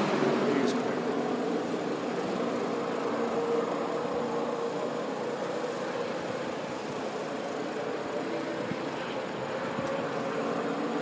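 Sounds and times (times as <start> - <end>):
distant race engines droning: 0.0 - 11.0.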